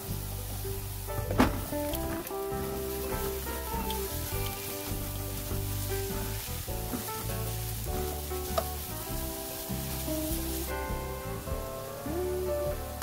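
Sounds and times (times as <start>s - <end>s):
background music: 0.0s - 13.0s
vegetables sizzling in oil: 0.0s - 13.0s.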